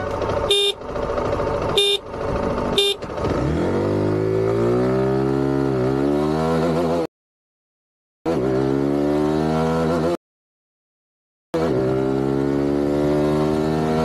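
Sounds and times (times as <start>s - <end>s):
motorcycle engine revving: 0.0s - 7.1s, 8.3s - 10.2s, 11.6s - 14.0s.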